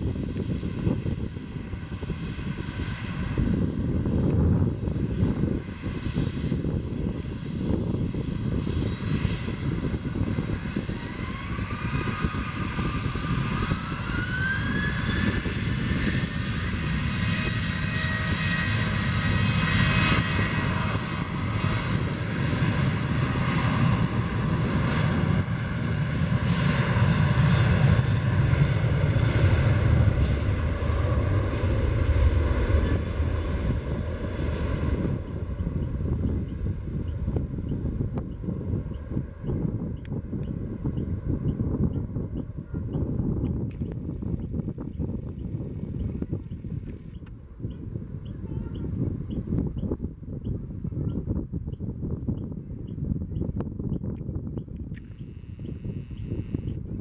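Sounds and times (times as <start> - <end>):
jet engines spooling up: 1.9 - 50.0.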